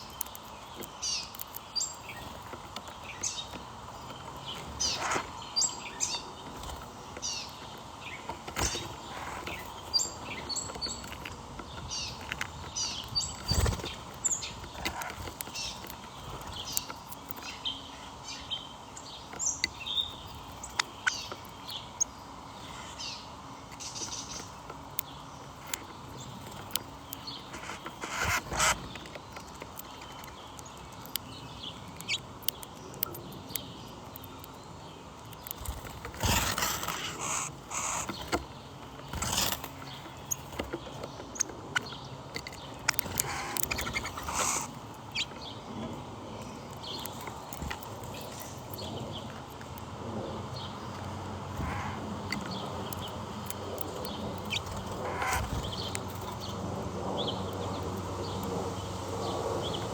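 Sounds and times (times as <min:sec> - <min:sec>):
birds chirping and calling: 0:00.0 - 0:59.9.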